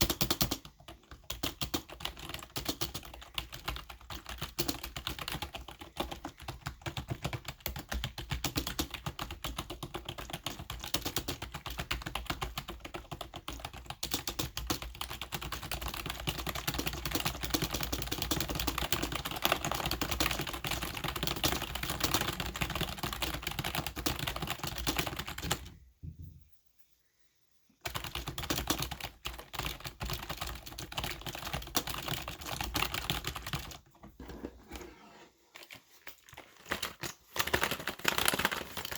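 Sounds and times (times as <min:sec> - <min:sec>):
fast typing on keyboard: 0:00.0 - 0:25.8, 0:27.8 - 0:33.9, 0:35.6 - 0:38.9.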